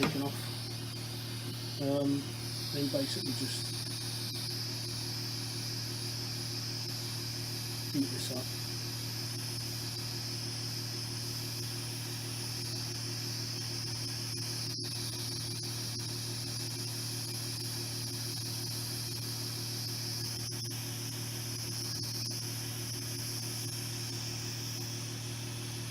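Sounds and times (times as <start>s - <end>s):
heat tool hissing and humming: 0.0s - 25.9s.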